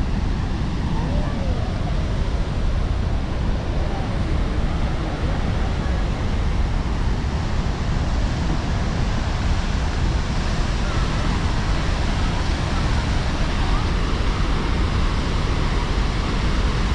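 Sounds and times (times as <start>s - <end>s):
river rushing: 0.0s - 16.9s
wind rumbling on microphone: 0.0s - 16.9s.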